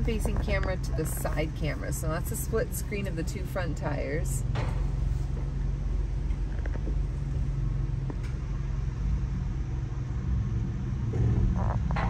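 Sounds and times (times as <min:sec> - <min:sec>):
truck engine rumbling at low revs: 0:00.0 - 0:12.0.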